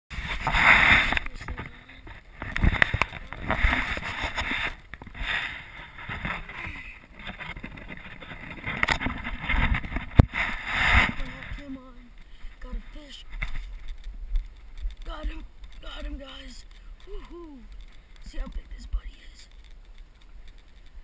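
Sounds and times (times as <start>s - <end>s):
rustling: 0.1s - 21.0s.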